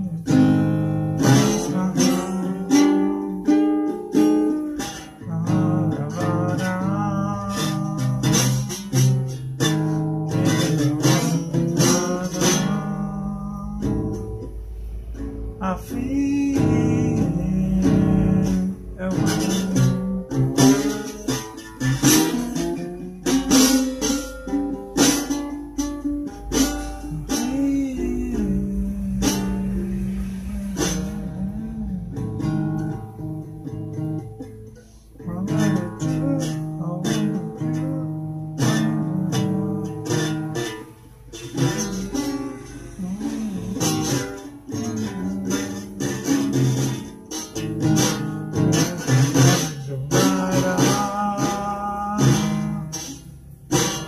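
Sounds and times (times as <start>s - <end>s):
guitar strumming: 0.0s - 54.0s.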